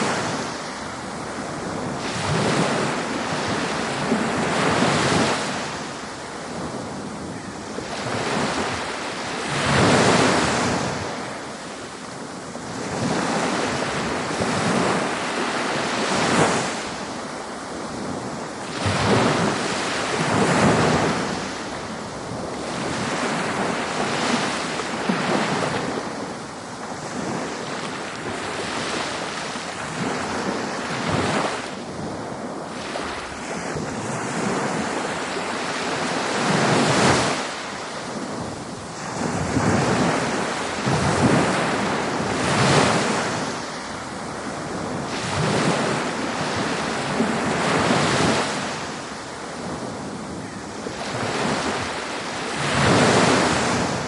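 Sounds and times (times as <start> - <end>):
ocean waves breaking: 0.0 - 54.0
wind on microphone: 0.0 - 54.0.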